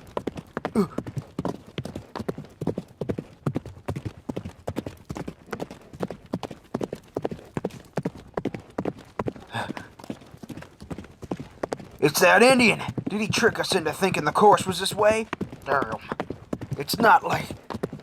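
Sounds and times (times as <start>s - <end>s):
galloping horse hoofbeats: 0.0s - 18.0s.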